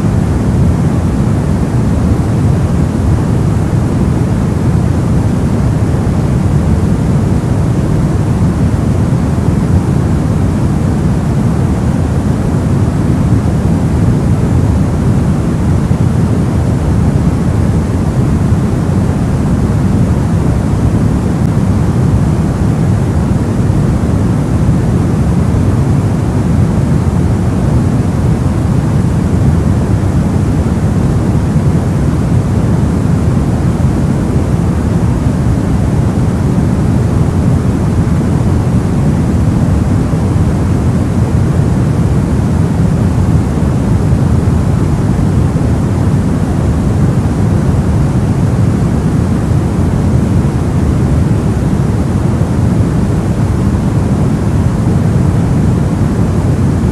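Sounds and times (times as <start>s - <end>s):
deep white noise: 0.0s - 56.9s.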